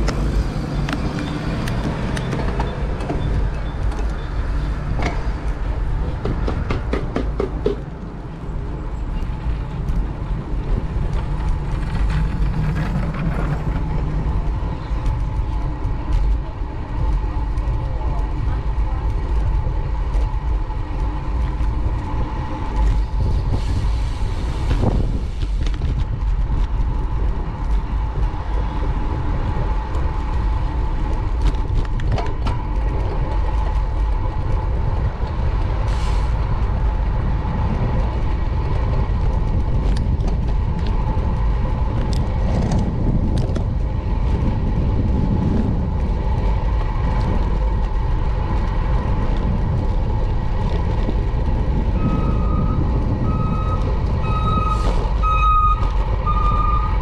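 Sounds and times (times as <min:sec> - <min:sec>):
street traffic: 0:00.0 - 0:57.0
wind rumble on microphone: 0:00.0 - 0:57.0.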